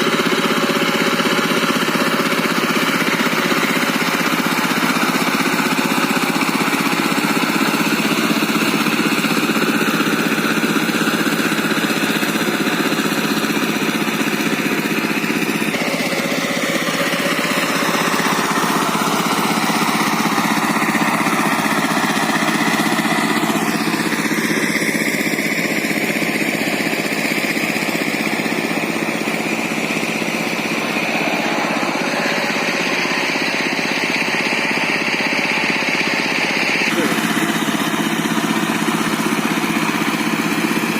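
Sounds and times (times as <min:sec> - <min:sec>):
diesel tiller engine running: 0:00.0 - 0:40.9.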